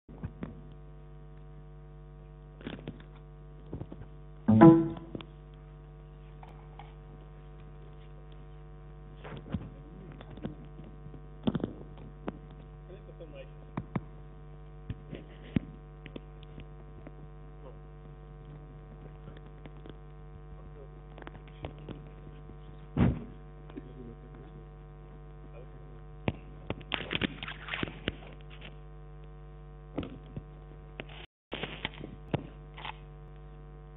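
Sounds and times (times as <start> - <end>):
electrical mains hum: 0.1 - 33.9.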